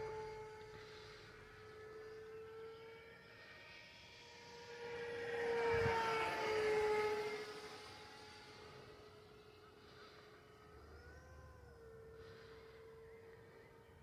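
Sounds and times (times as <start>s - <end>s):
model jet ducted fan whining: 0.0s - 14.0s.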